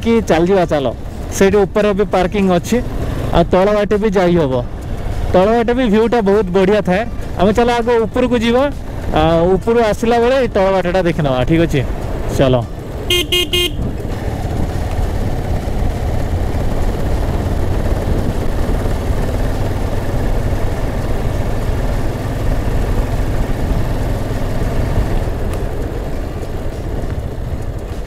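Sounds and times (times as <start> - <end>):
motorcycle engine hum: 0.0 - 28.0
wind and road noise: 0.0 - 28.0.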